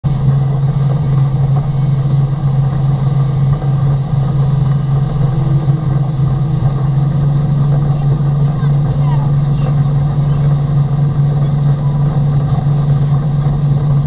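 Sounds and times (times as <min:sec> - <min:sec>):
motorboat engine droning: 0:00.0 - 0:14.0
wind and water rushing: 0:00.1 - 0:14.0.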